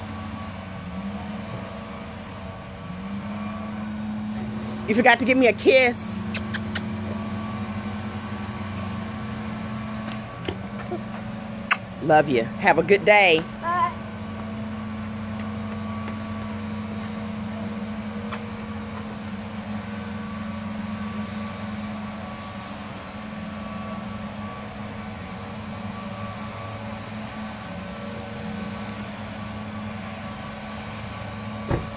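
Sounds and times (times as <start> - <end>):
truck engine idling: 0.0 - 31.9.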